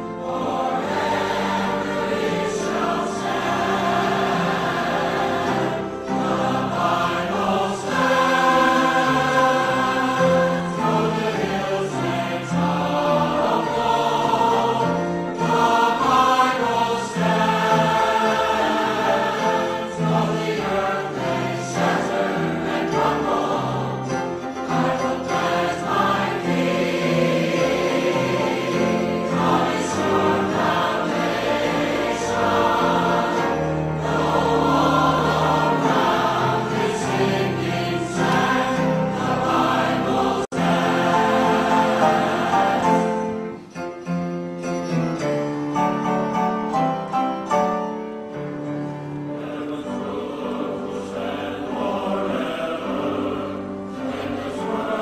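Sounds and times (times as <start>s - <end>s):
choir singing a hymn: 0.0s - 44.1s, 48.0s - 55.0s
instrumental accompaniment: 0.0s - 55.0s.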